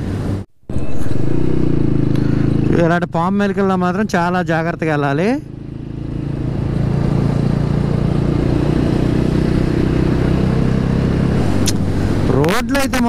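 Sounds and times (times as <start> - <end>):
wind and road noise: 0.0 - 13.0
motorcycle engine cruising: 0.2 - 13.0.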